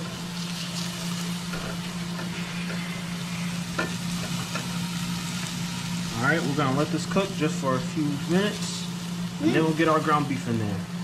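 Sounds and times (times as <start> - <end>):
onions sizzling in a pan: 0.0 - 11.0
steady low hum: 0.0 - 11.0.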